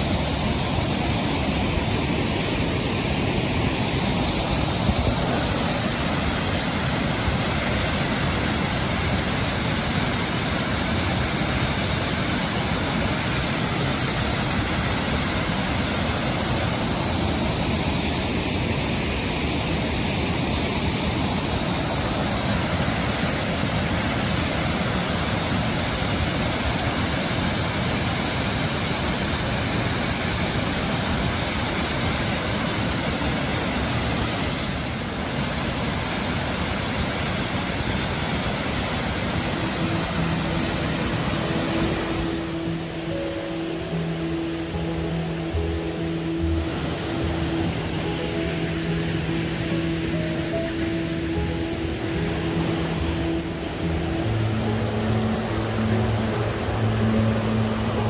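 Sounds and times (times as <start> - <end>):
waterfall rushing onto rocks: 0.0 - 58.0.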